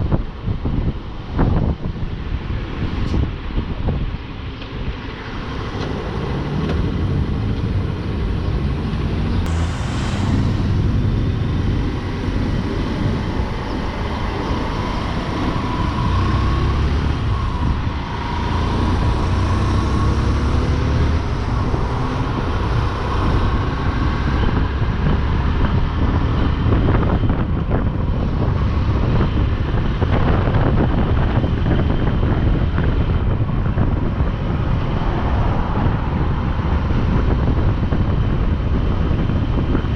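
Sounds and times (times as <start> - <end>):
road rumble: 0.0 - 39.9
wind rushing over microphone: 0.0 - 39.9.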